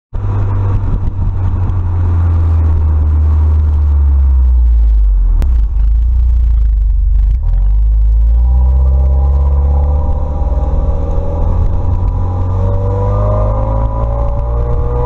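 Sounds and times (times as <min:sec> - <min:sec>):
car exhaust rumble: 0:00.1 - 0:15.0.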